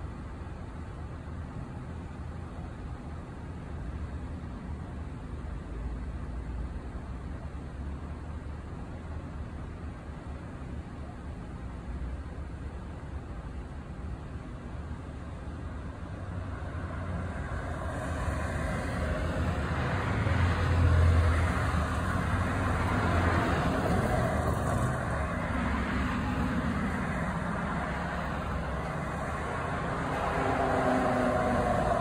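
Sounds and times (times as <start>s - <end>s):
vehicles passing on street: 0.0s - 32.0s.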